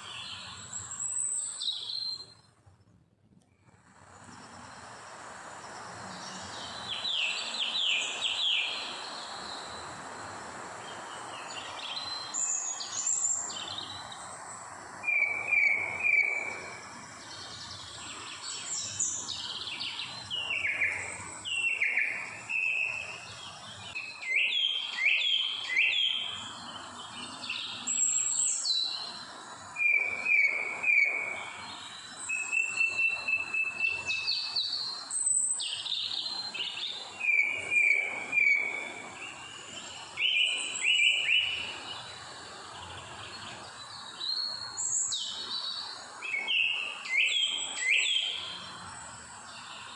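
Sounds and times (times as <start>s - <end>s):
birds singing and calling: 0.0s - 2.4s, 4.1s - 49.9s
steady background hiss: 0.0s - 49.9s.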